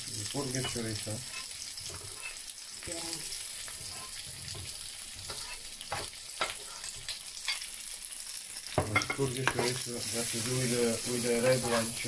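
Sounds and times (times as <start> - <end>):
sausage sizzling in frying pan: 0.0 - 12.0.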